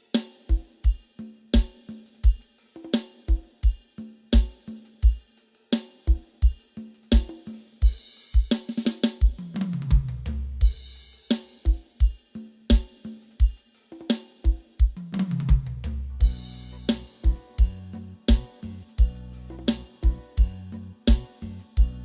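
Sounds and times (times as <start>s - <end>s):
drum beat over sound system: 0.0s - 22.0s.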